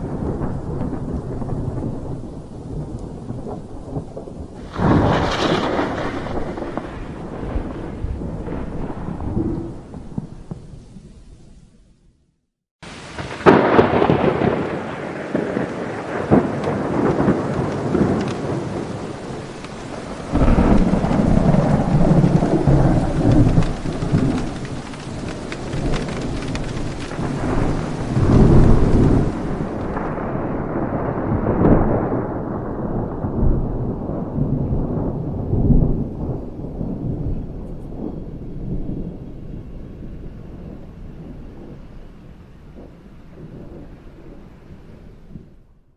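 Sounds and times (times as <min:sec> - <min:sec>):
rain hiss: 0:00.0 - 0:12.0, 0:12.8 - 0:31.4, 0:35.8 - 0:45.6
thunder rumbling: 0:00.0 - 0:12.1, 0:12.8 - 0:45.9.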